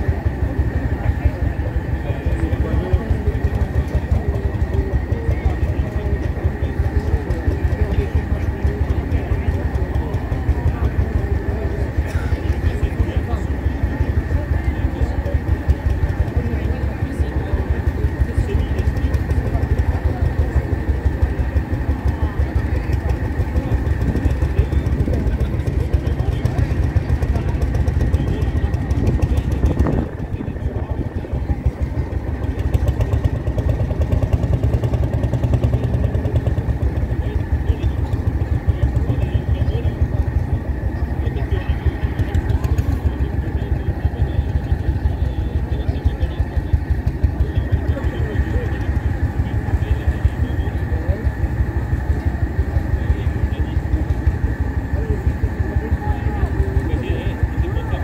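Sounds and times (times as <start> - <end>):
crowd chatter: 0.0 - 58.0
tractor engine idling: 0.0 - 58.0
voices murmuring: 0.0 - 58.0.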